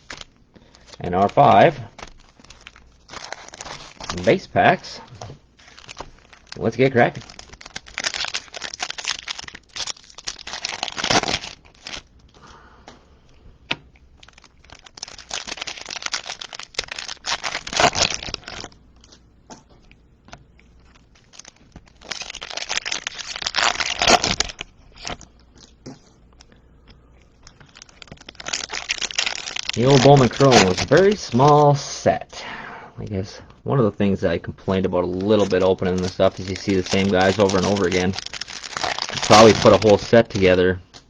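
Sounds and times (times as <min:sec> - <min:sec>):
card pack wrappers tearing: 0:00.0 - 0:12.4, 0:14.2 - 0:19.2, 0:20.8 - 0:26.5, 0:27.4 - 0:31.8, 0:35.0 - 0:40.6.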